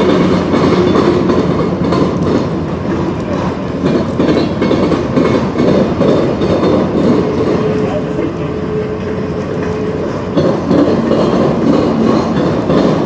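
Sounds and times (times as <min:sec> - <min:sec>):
train wheels clacking on rails: 0:00.0 - 0:13.0.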